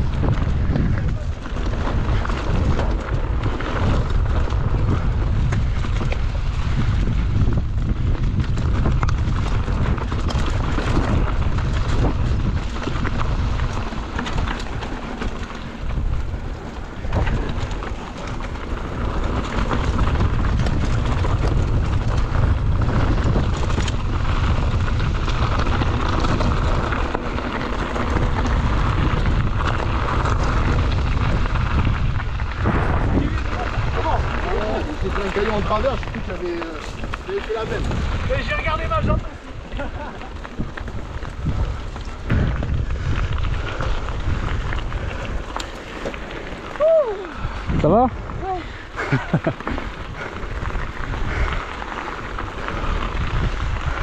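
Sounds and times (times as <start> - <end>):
bike clicks and rattles: 0.0 - 54.0
bike tyres on dirt track: 0.0 - 54.0
wind buffeting microphone: 0.0 - 54.0.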